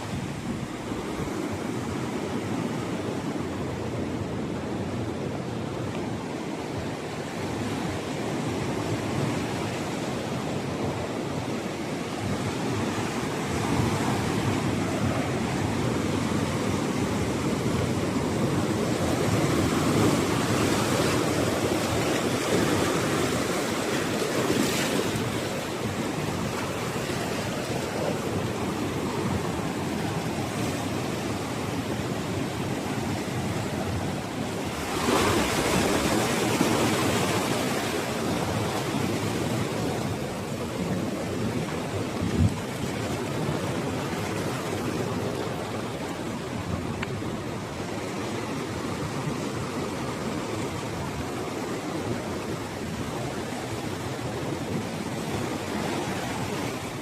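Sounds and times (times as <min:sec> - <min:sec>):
ocean surf breaking: 0:00.0 - 0:57.0
wind on microphone: 0:00.0 - 0:57.0.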